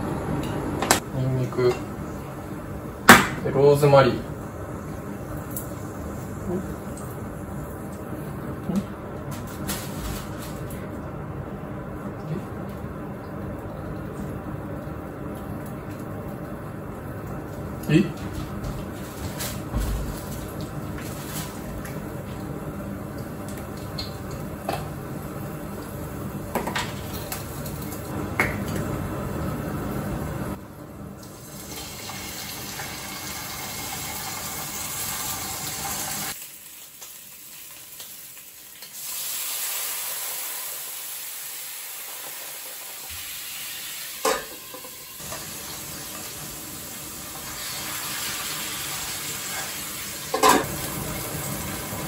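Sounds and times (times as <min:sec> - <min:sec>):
frying pan sizzling: 0:00.0 - 0:12.1, 0:12.9 - 0:52.0.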